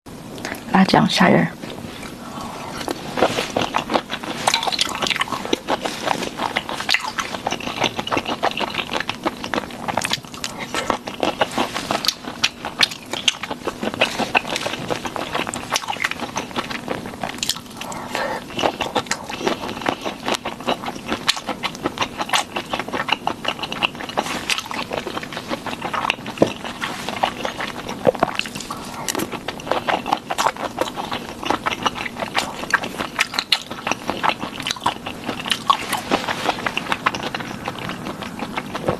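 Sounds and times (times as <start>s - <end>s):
wet chewing and lip smacking: 1.7s - 38.9s.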